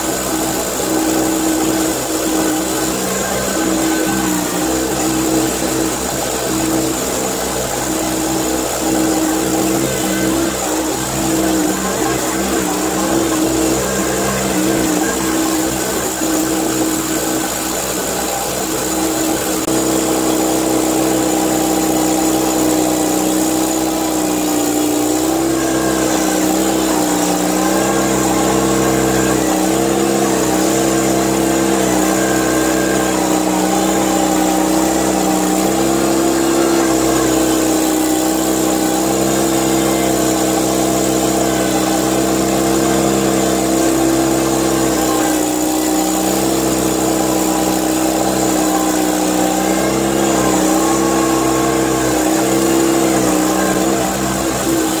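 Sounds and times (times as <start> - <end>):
skid steer engine running: 0.0 - 55.0.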